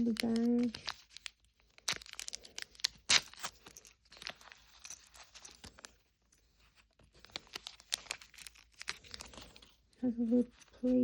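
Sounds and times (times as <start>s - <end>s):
plastic bag crinkling: 0.0s - 6.0s, 6.9s - 11.0s.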